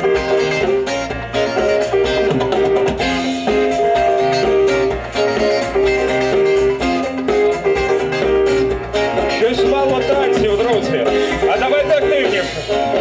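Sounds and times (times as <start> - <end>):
held melody notes: 0.0 - 10.7
drum kit: 0.0 - 13.0
guitars: 0.0 - 13.0.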